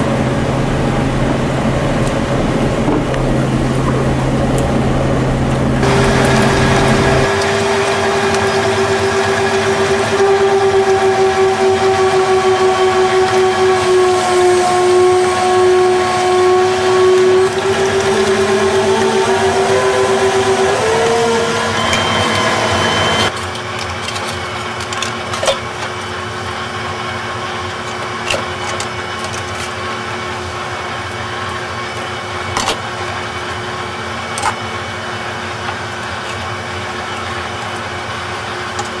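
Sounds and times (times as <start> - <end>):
machine whine: 0.0 - 39.0
machinery hum: 0.0 - 39.0.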